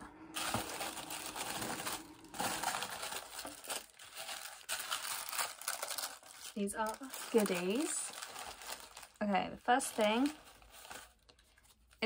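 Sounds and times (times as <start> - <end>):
packaging crinkling and rustling: 0.4 - 12.0.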